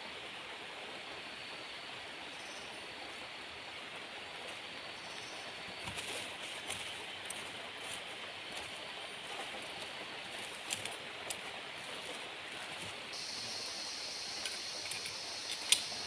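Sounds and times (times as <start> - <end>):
forest ambience hiss: 0.0 - 16.0.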